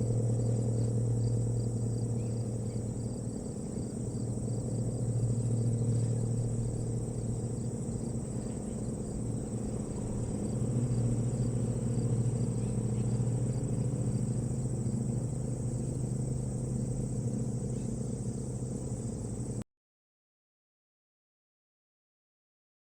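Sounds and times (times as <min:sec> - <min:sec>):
insects chirping: 0:00.0 - 0:19.6
steady low rumble: 0:00.0 - 0:19.6.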